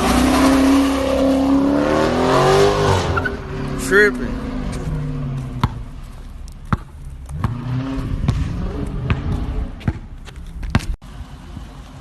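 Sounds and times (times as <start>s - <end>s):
low vehicle rumble: 0.0s - 12.0s.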